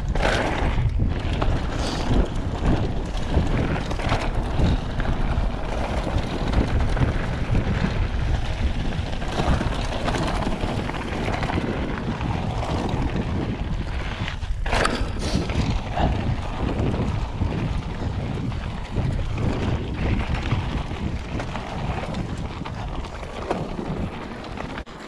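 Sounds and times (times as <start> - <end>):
bike rattling: 0.0 - 25.0
bike tyres over loose stones: 0.0 - 25.0
wind buffeting microphone: 0.0 - 25.0.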